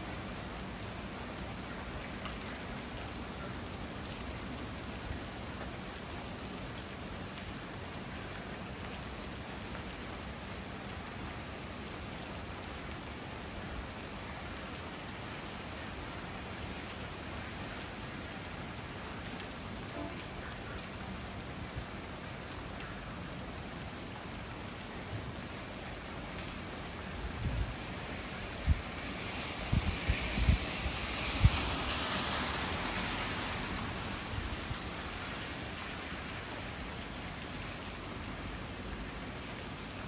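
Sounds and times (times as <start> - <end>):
rain on street and leaves: 0.0 - 40.0.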